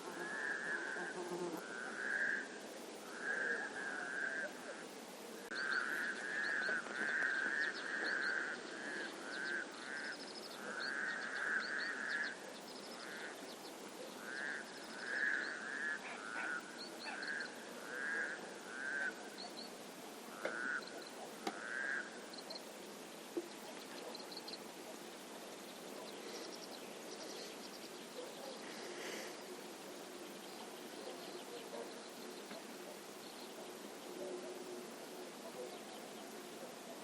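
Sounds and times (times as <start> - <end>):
frogs croaking: 0.0 - 37.0
steady background hiss: 0.0 - 37.0.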